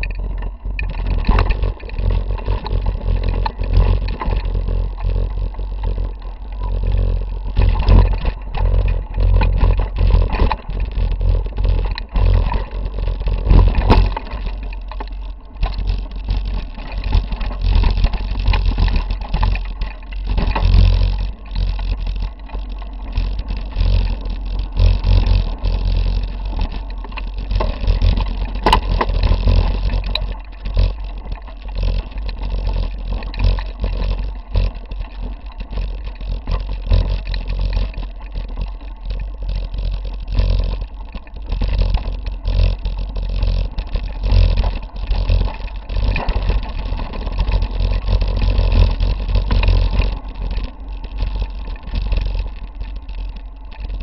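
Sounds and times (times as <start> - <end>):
bike vibration rumble: 0.0 - 54.0
wheels knocking on rocks: 0.0 - 54.0.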